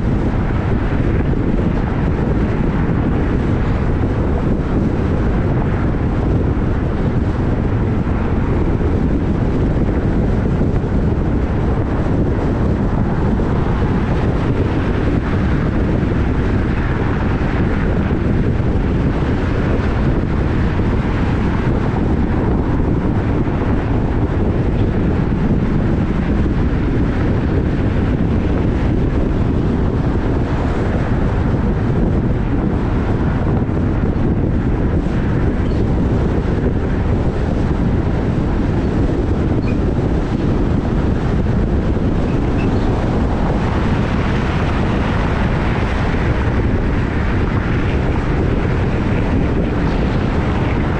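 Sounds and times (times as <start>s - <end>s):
low rumble: 0.0s - 50.9s
wind buffeting microphone: 0.0s - 50.9s.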